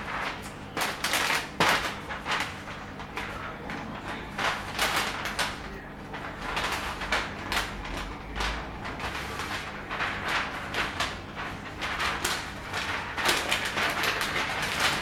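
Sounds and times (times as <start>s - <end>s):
sharp paper snap: 0.0s - 3.4s, 4.1s - 15.0s
paper crinkling and rustling: 0.0s - 15.0s.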